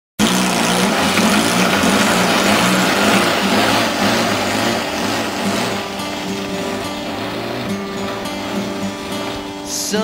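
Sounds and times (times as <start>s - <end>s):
model plane engine running: 0.2s - 10.0s.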